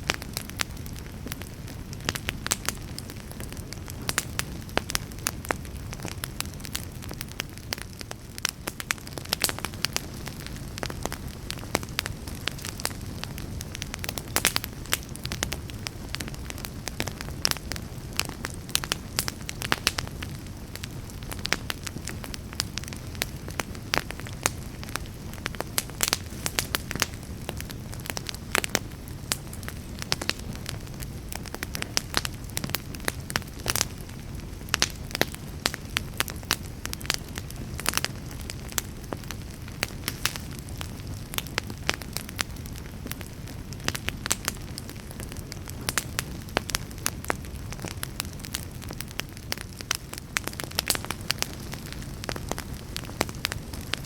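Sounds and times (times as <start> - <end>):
burning logs popping and crackling: 0.0 - 54.0
low rumble of flames: 0.0 - 54.0.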